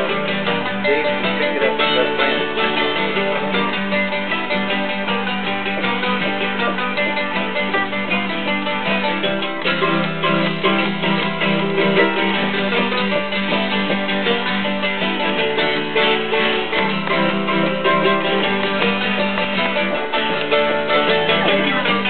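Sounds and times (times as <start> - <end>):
acoustic guitar chords: 0.0 - 22.0
mandolin picking: 0.0 - 22.0.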